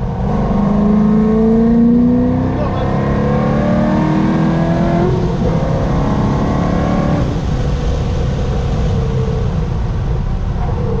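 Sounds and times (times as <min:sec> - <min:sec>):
car engine accelerating hard: 0:00.0 - 0:10.3.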